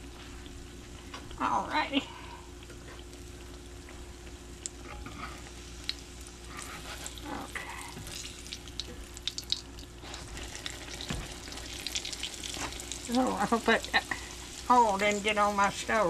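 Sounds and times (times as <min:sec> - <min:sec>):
hot oil sizzling and crackling: 0:02.6 - 0:16.0.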